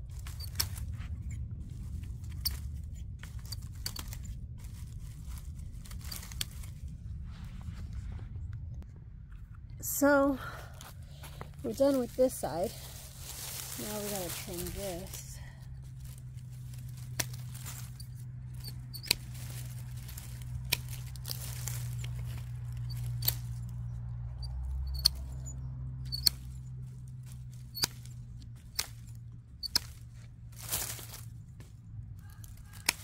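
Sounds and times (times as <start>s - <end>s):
dry leaves rustling: 0.0s - 7.4s, 9.9s - 33.0s
steady low hum: 0.0s - 33.0s
pruning shears snipping twigs: 0.1s - 6.8s, 11.6s - 33.0s.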